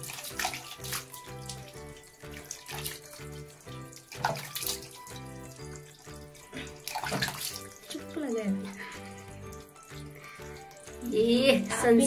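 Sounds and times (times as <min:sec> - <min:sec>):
water splashing on fur and tiles: 0:00.0 - 0:12.0.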